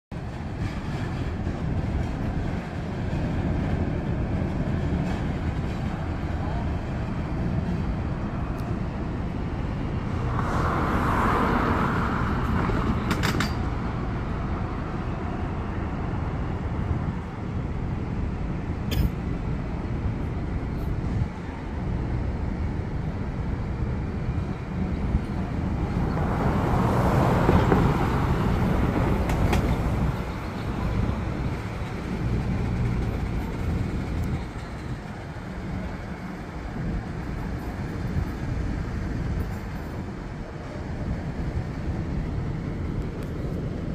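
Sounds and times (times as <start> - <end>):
diesel engine low rumble: 0.1 - 43.9.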